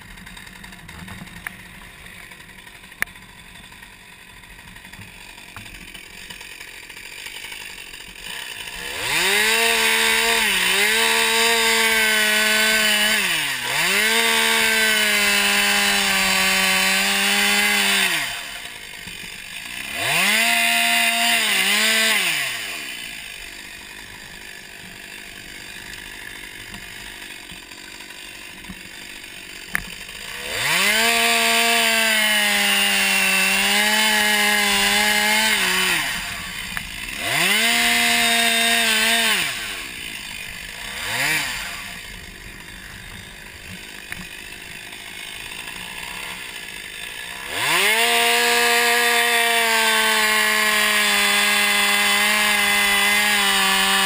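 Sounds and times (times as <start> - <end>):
chainsaw idling: 0.0 - 54.0
chainsaw revving and cutting wood: 0.0 - 54.0.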